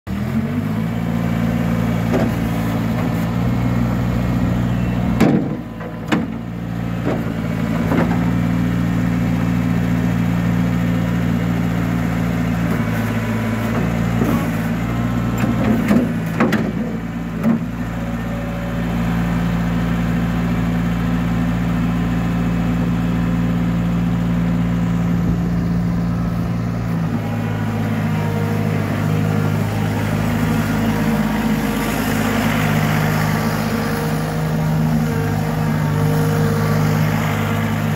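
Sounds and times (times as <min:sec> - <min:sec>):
skid-steer loader engine running: 0:00.1 - 0:37.9.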